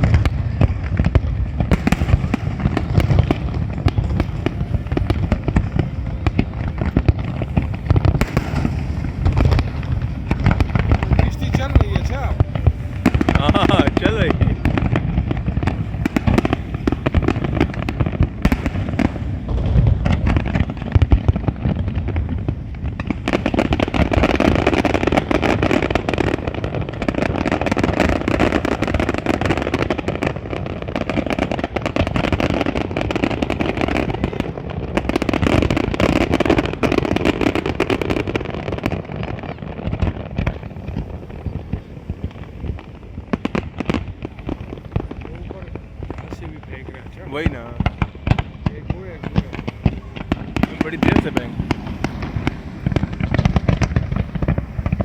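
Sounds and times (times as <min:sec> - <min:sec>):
fireworks booms: 0:00.0 - 0:55.0
fireworks crackling pops: 0:00.0 - 0:55.0.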